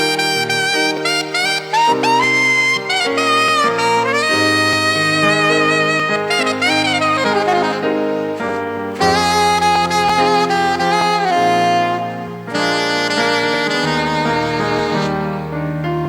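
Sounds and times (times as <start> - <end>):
held chords: 0.0 - 16.0
saxophone melody: 0.0 - 16.0.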